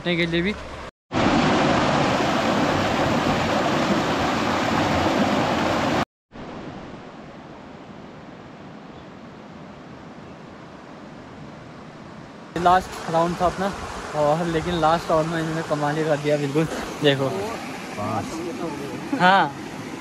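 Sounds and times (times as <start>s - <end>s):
stream water rushing: 0.1s - 20.0s.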